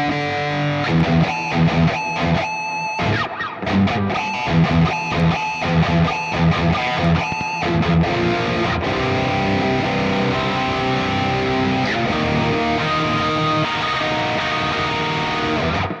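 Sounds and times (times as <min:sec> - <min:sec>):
electric guitar ringing notes: 0:00.0 - 0:16.0.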